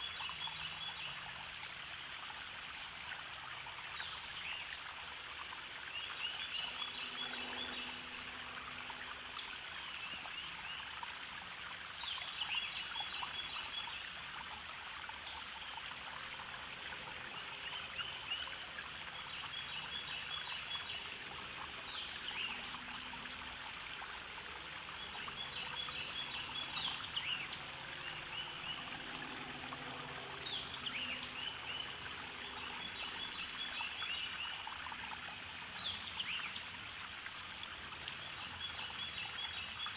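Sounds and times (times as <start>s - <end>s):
trickling stream: 0.0s - 39.9s.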